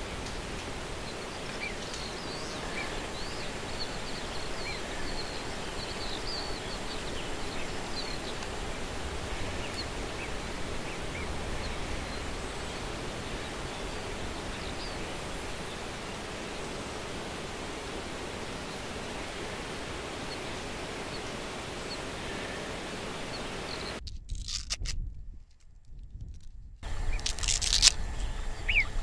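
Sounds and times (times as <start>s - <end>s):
small birds chirping: 0.0s - 24.0s, 26.8s - 29.0s
steady rushing noise: 0.0s - 24.0s.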